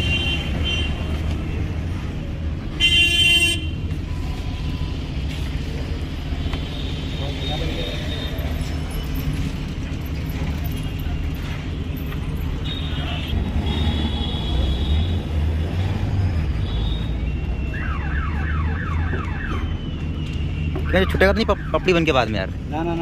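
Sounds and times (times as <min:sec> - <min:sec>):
traffic engine rumble: 0:00.0 - 0:23.0.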